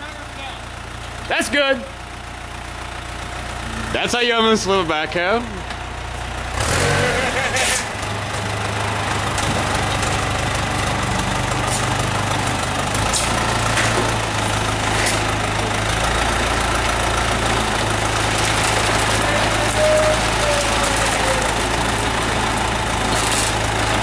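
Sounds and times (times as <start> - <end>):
backhoe engine running: 0.0 - 24.0.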